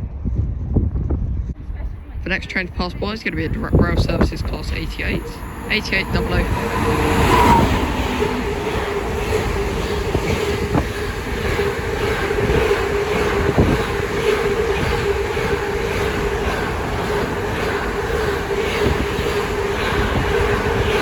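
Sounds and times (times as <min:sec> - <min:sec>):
rumble of freight wagons: 0:01.5 - 0:21.0
locomotive whine: 0:02.3 - 0:21.0
sharp train clanks: 0:02.4 - 0:21.0.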